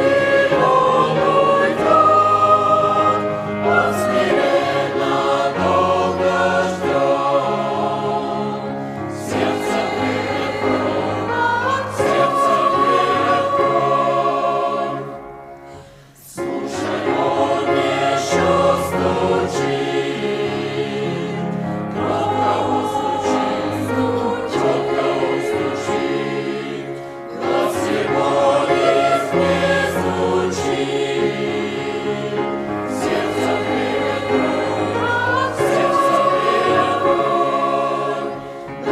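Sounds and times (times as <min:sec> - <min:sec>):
church choir singing a hymn: 0:00.0 - 0:38.9.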